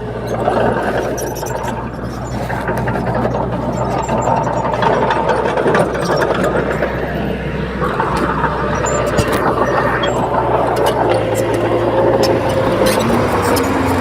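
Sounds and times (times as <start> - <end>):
bulldozer diesel engine running: 0.0 - 14.0
steel crawler tracks clanking: 0.0 - 14.0.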